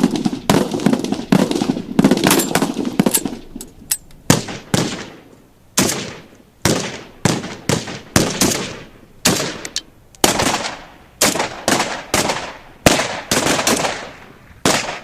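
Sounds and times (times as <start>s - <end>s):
gunshots echoing: 0.0s - 3.5s, 4.3s - 15.0s.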